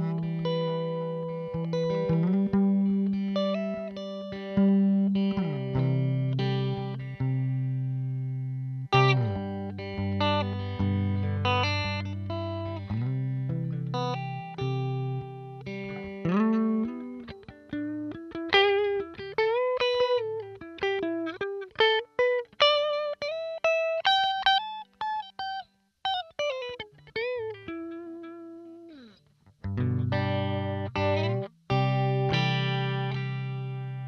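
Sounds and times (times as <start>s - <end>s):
clean electric guitar riff: 0.0s - 34.0s.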